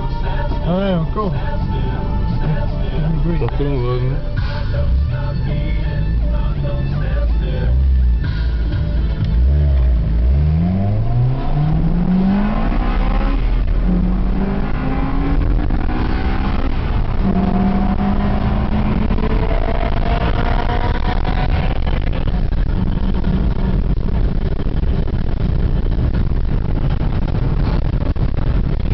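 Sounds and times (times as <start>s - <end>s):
car engine accelerating hard: 0.0s - 28.9s.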